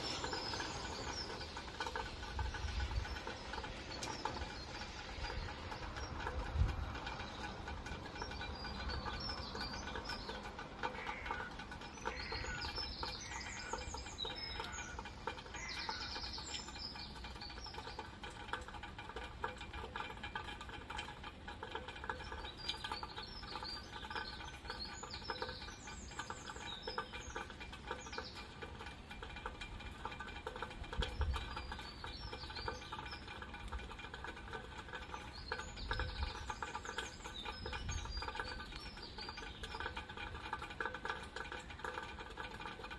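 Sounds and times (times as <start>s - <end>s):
birds chirping: 0.0s - 18.6s, 21.6s - 29.4s, 30.4s - 42.9s
rain pattering: 0.0s - 42.9s.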